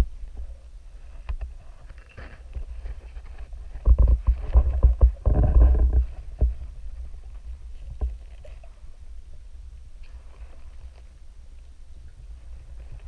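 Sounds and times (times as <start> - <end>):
low steady underwater noise: 0.0 - 13.0.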